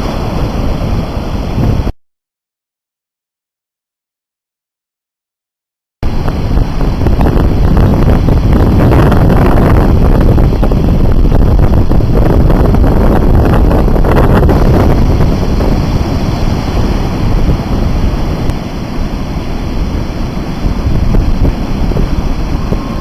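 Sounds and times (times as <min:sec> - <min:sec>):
surf breaking: 0:00.0 - 0:01.9, 0:06.0 - 0:23.0
wind buffeting microphone: 0:00.0 - 0:01.9, 0:06.0 - 0:23.0.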